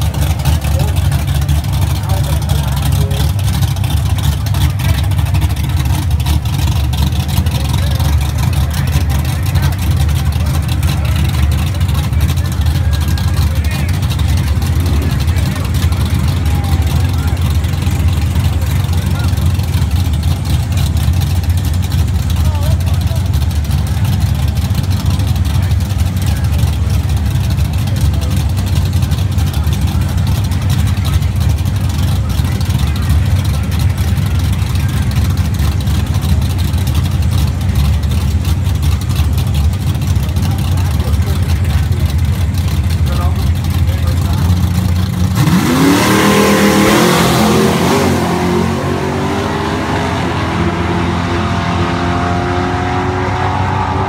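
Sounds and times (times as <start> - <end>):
engine idling loudly: 0.0 - 54.0.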